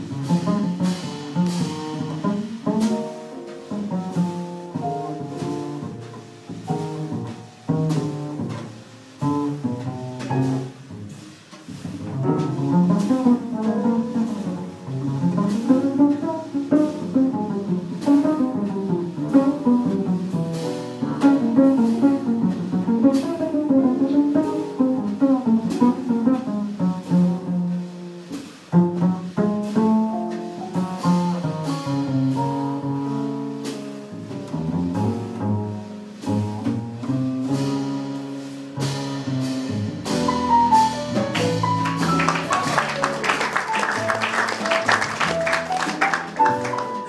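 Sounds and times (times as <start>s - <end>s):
double bass walking line: 0.0s - 47.0s.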